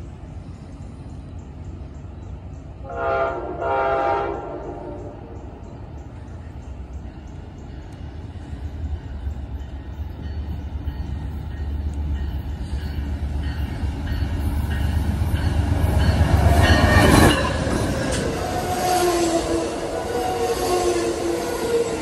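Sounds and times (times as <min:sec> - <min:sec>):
diesel locomotive rumble: 0:00.0 - 0:22.0
rush of passing train cars: 0:00.0 - 0:22.0.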